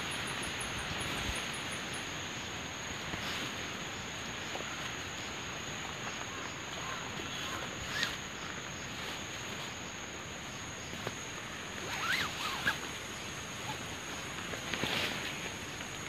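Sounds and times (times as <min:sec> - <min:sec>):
rain hiss: 0:00.0 - 0:16.0
tent fabric rustling: 0:02.7 - 0:16.0.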